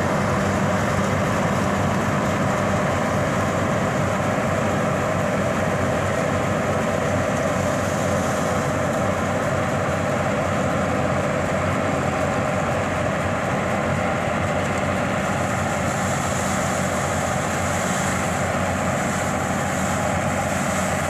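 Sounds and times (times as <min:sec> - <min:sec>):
combine harvester engine running: 0:00.0 - 0:21.0.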